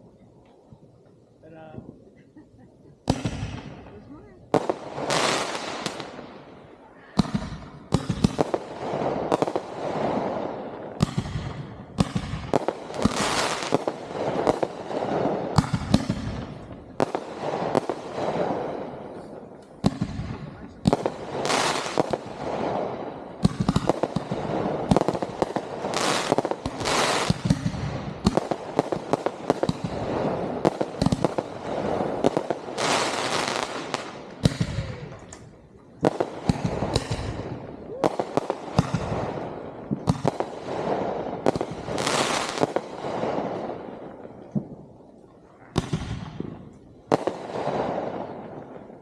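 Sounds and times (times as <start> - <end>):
fireworks bangs and booms: 0.0 - 49.0.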